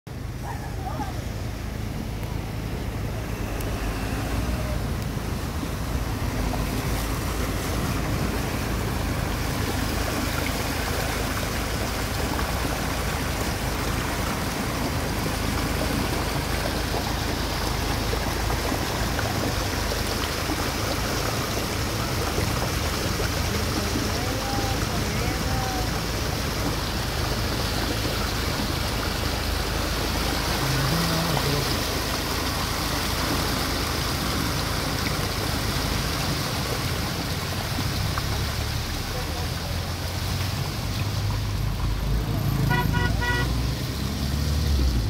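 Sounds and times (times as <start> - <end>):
car low rumble: 0.1 - 45.0
rain and wet road hiss: 0.1 - 45.0.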